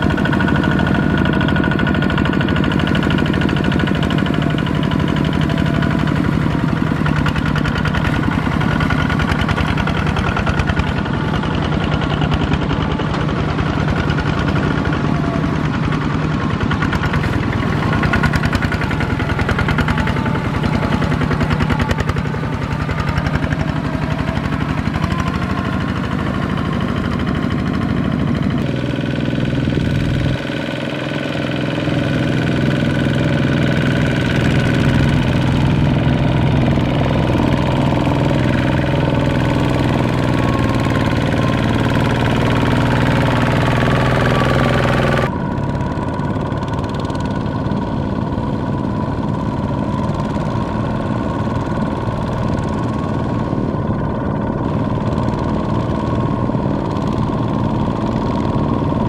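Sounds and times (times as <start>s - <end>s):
diesel tractor engines chugging: 0.0s - 59.0s.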